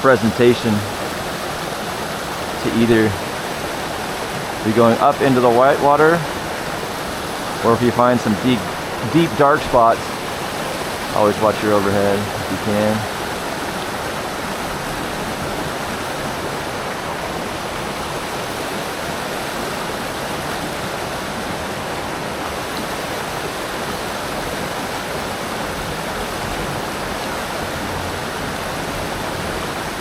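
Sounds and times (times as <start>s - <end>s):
river running over rocks: 0.0s - 30.0s.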